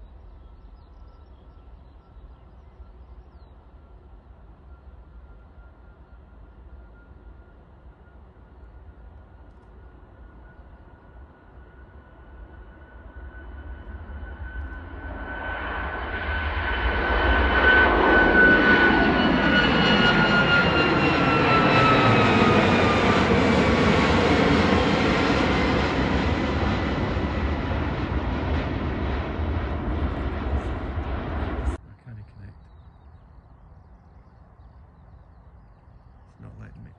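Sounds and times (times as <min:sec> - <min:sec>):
jet airliner engines: 0:00.0 - 0:36.9
high engine whine: 0:01.0 - 0:36.9.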